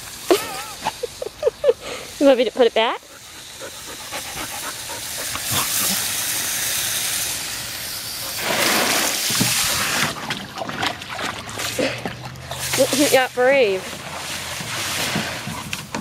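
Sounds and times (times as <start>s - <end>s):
garden hose spraying water: 0.0s - 16.0s.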